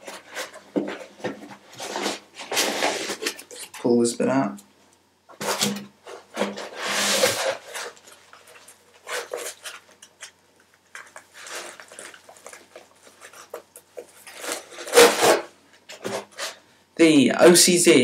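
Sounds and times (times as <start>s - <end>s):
packaging rustling and scraping: 0.0s - 4.0s, 5.3s - 16.6s.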